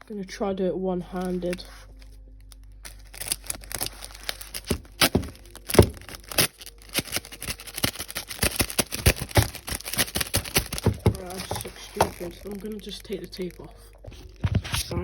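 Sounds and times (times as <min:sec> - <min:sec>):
packaging crinkling and crackling: 0:01.1 - 0:15.0.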